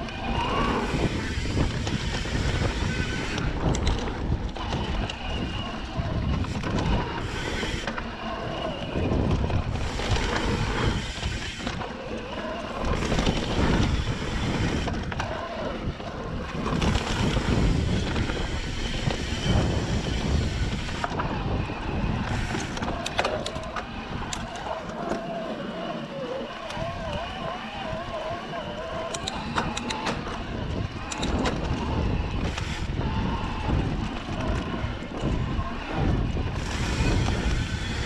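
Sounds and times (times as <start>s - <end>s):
bike rattling over bumps: 0.0s - 38.0s
tyres on dirt: 0.0s - 38.0s
wind buffeting microphone: 0.0s - 38.0s.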